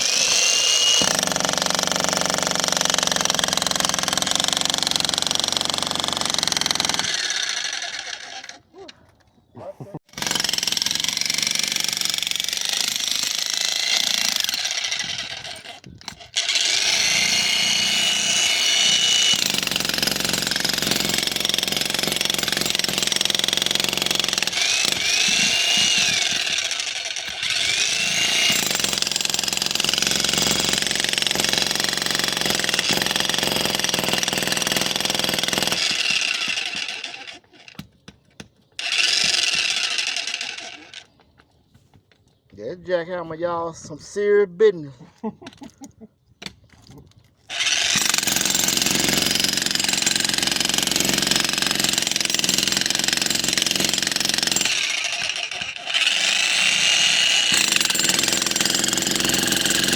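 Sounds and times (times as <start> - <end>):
jackhammer hammering concrete: 0.0 - 8.5, 10.1 - 37.9, 38.8 - 41.0, 47.5 - 59.9.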